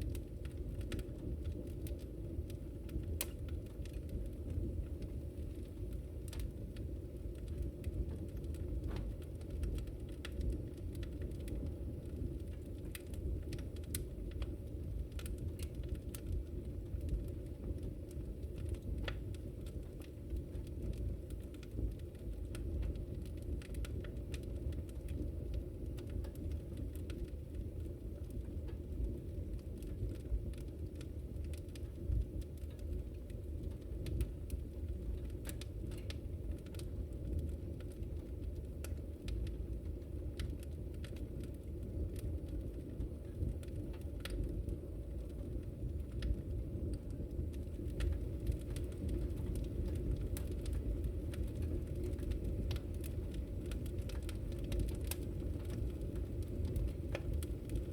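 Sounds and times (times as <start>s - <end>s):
low rumble of flames: 0.0s - 57.9s
wood fire crackling: 0.0s - 57.9s.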